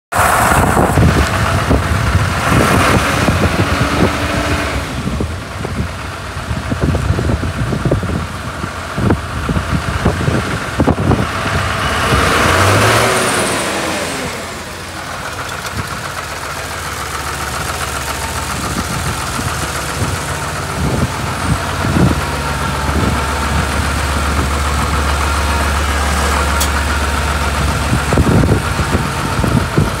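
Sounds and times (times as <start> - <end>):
tractor diesel engine running: 0.1 - 30.0.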